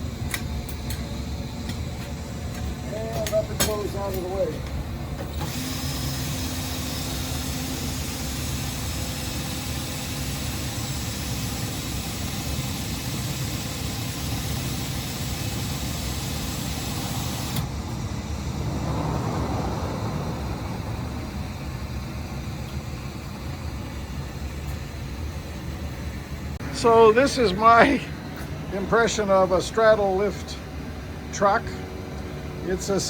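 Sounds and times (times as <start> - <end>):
machine running: 0.0 - 33.0.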